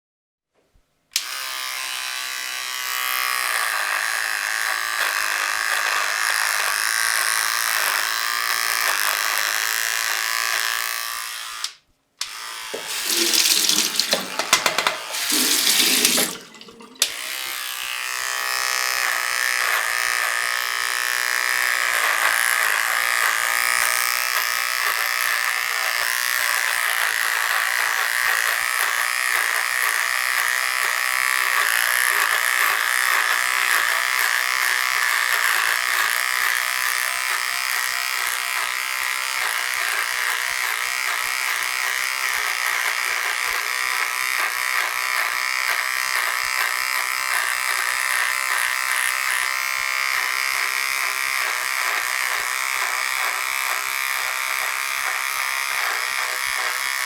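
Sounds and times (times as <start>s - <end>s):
electric beard trimmer buzzing: 1.2s - 57.0s.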